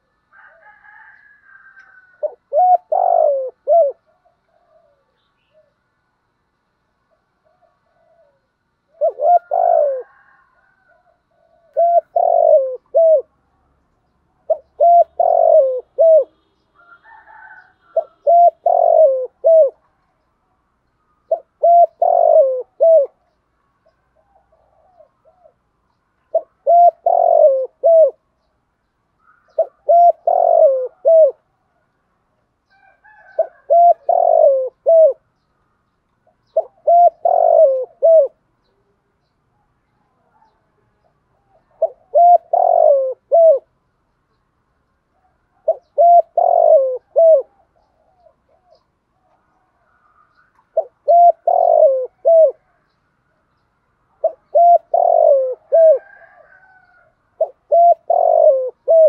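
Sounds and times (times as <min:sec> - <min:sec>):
dove cooing: 0:00.0 - 0:05.8, 0:07.1 - 0:13.4, 0:14.4 - 0:20.0, 0:21.1 - 0:28.3, 0:29.2 - 0:31.9, 0:32.8 - 0:35.3, 0:36.3 - 0:39.0, 0:40.1 - 0:43.8, 0:45.1 - 0:52.9, 0:54.1 - 0:59.0.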